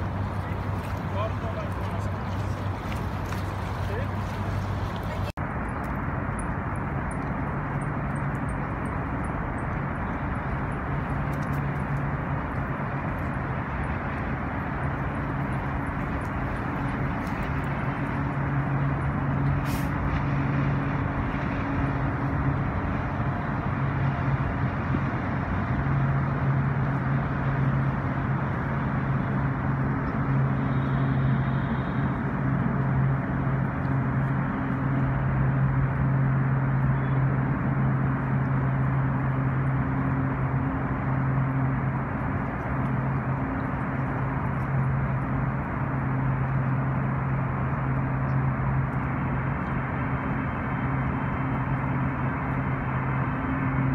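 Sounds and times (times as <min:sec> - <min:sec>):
low engine drone: 0:00.0 - 0:53.9
outdoor noise: 0:00.0 - 0:53.9.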